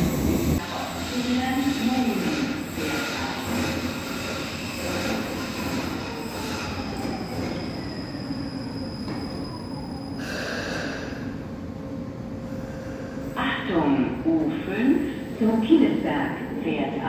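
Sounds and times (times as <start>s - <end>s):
light-rail train rail noise: 0.0s - 17.0s.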